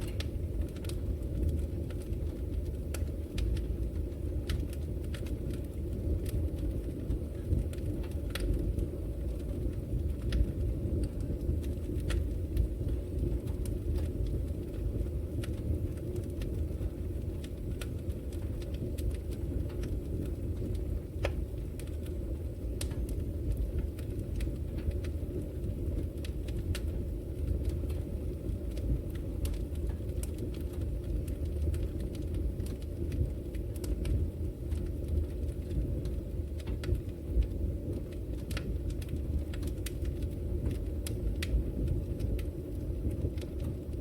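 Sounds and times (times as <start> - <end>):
fireplace flames rumbling: 0.0 - 44.0
wood crackling and popping: 0.0 - 44.0.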